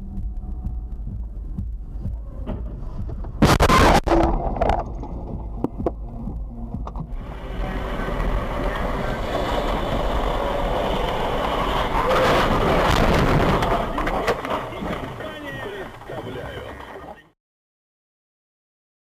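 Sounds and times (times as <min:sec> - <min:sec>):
road and wind noise: 0:00.0 - 0:17.3
vehicle low rumble: 0:00.0 - 0:17.3.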